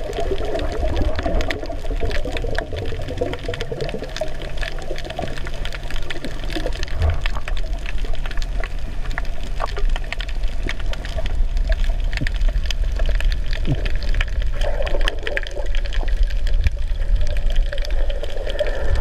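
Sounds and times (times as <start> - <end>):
muffled underwater rumble: 0.0 - 19.0
underwater crackles and clicks: 0.0 - 19.0.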